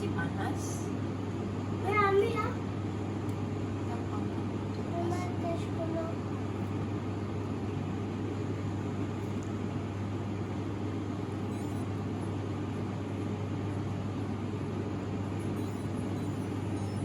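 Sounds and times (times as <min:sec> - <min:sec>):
machine hum with hiss: 0:00.0 - 0:17.0.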